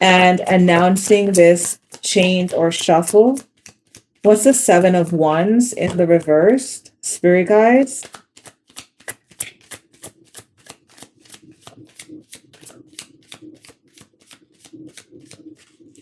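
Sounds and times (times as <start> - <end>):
cards being shuffled: 0.1 - 5.2, 7.9 - 16.0.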